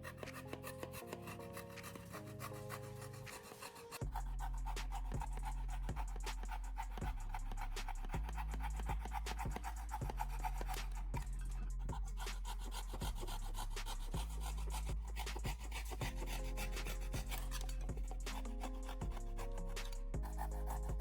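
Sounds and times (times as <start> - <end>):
rasping scraping strokes: 0.0 - 21.0
background music with bass: 4.0 - 21.0.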